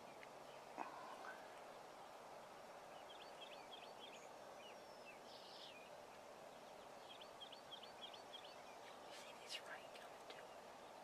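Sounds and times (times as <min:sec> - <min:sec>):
faint bird chirps: 0:00.0 - 0:11.0
faint hiss: 0:00.0 - 0:11.0.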